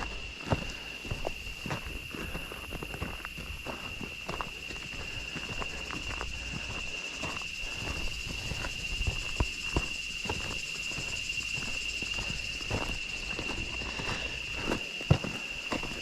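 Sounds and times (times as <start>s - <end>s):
footsteps on a trail: 0.0s - 16.0s
insects droning: 0.0s - 16.0s.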